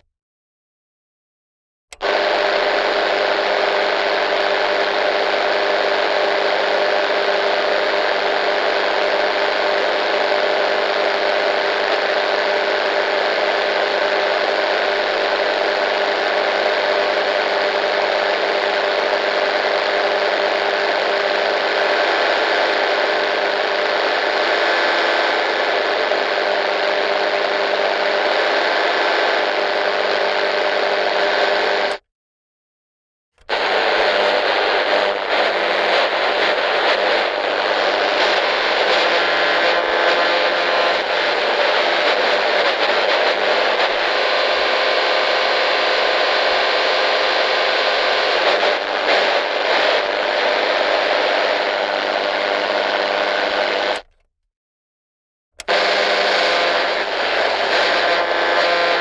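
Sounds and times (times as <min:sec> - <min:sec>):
radio static hiss: 0:02.0 - 0:32.0, 0:33.4 - 0:54.2, 0:55.6 - 0:59.0.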